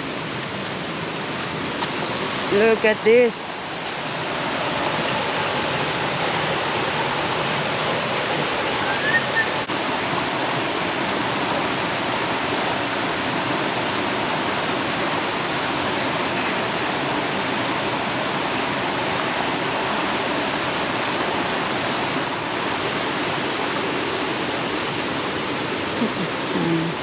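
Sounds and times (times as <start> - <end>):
rushing flowing water: 0.0 - 27.0.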